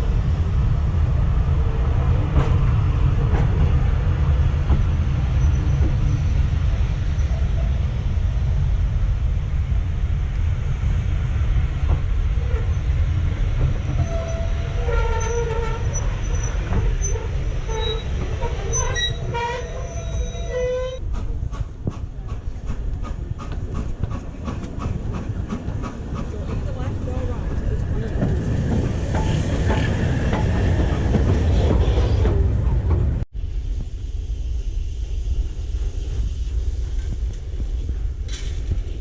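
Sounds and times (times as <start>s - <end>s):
train rumbling past: 0.0s - 39.0s.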